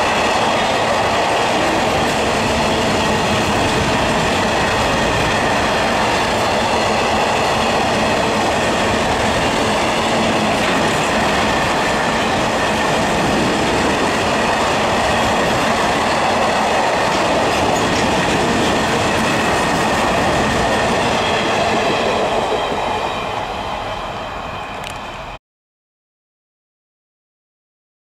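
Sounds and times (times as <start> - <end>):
steel wheels clattering on rails: 0.0 - 23.4.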